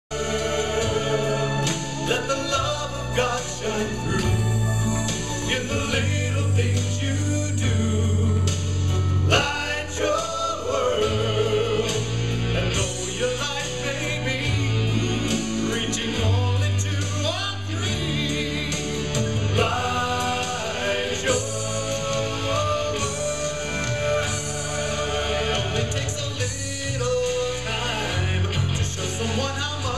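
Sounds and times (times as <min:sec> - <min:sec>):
bass line: 0:00.1 - 0:29.9
several voices singing: 0:00.1 - 0:29.9.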